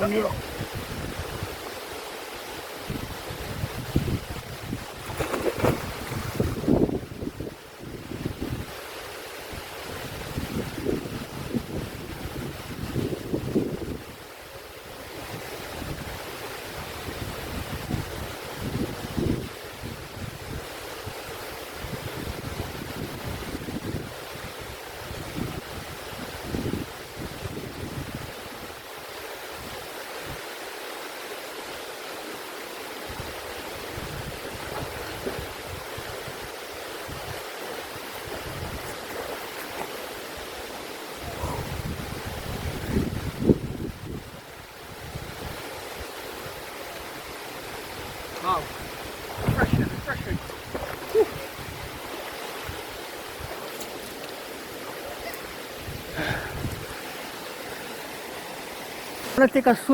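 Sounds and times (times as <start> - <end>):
wind rumble on microphone: 0.0 - 1.8, 2.8 - 30.4, 33.1 - 40.6, 41.2 - 58.3
waterfall rushing into pool: 0.0 - 59.9.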